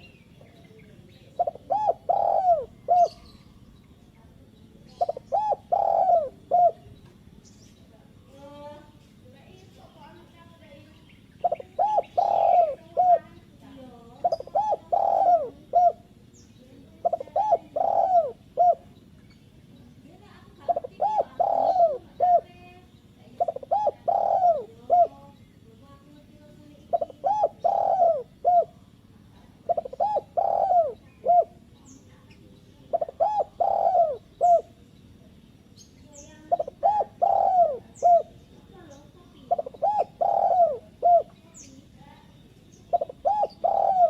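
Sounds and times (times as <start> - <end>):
dove cooing: 0.0 - 3.7, 4.4 - 7.0, 11.2 - 34.9, 36.2 - 44.0
small birds chirping: 0.0 - 44.0.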